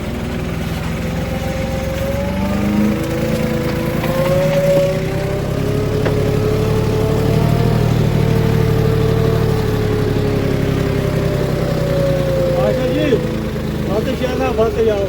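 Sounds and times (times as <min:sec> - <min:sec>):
diesel engine revving under load: 0:00.0 - 0:15.0.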